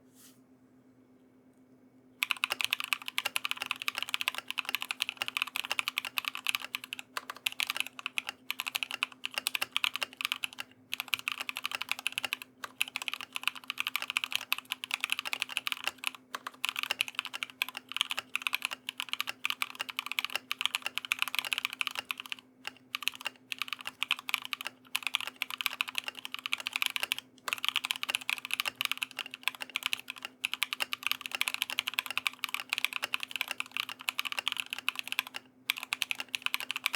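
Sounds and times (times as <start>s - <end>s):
typing on mechanical keyboard: 2.2s - 36.9s.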